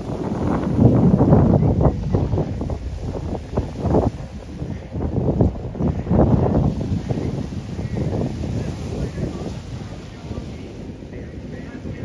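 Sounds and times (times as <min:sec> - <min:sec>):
small waves washing onto beach: 0:00.0 - 0:12.0
wind buffeting microphone: 0:00.0 - 0:12.0.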